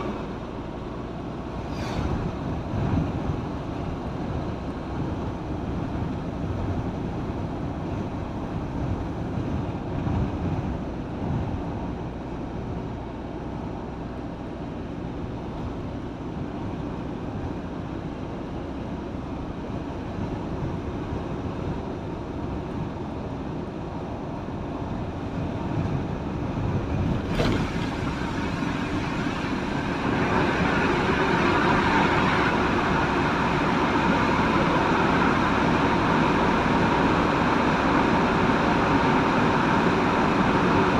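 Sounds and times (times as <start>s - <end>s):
vehicle road and wind noise: 0.0s - 40.9s.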